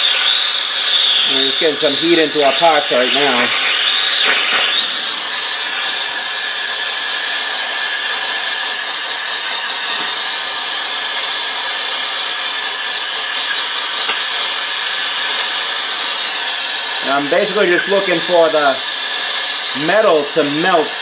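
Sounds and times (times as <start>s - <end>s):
high whistle: 0.0s - 21.0s
torch flame hissing: 0.0s - 21.0s.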